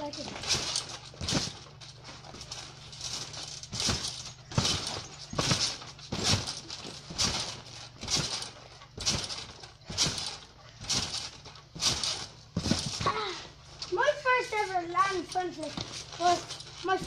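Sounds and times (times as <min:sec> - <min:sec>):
trampoline mat thuds: 0:00.0 - 0:17.0.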